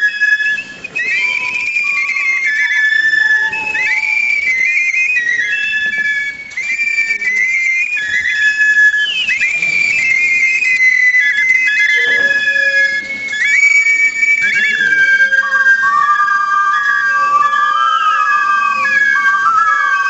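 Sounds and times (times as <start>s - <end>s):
high whistling wind instruments: 0.0s - 20.0s.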